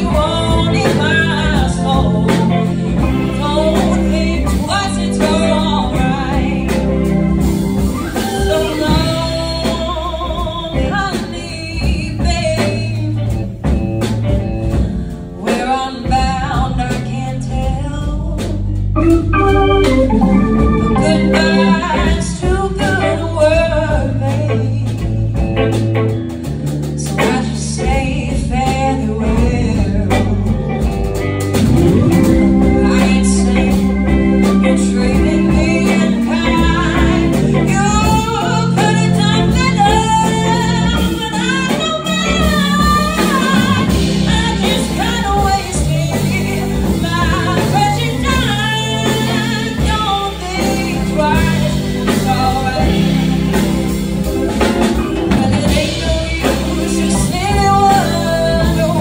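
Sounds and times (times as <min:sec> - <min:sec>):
woman singing into microphone: 0:00.0 - 0:13.4, 0:15.4 - 0:25.1, 0:26.9 - 0:30.9, 0:31.5 - 0:59.0
drums: 0:00.0 - 0:59.0
electric guitar: 0:00.0 - 0:59.0
piano: 0:00.0 - 0:59.0.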